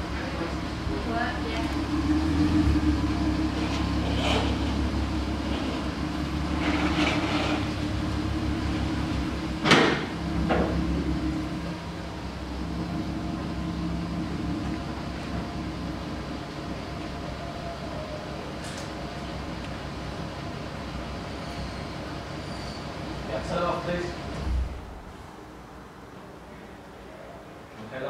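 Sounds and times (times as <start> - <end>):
car engine idling: 0.0 - 25.2.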